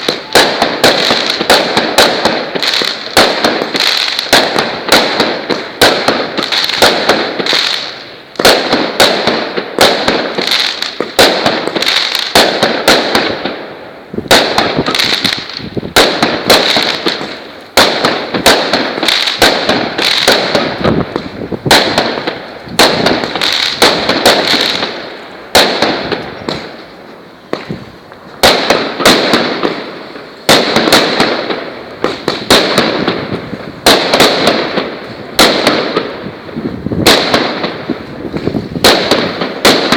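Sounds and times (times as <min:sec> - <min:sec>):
firework battery bangs: 0:00.0 - 0:39.9.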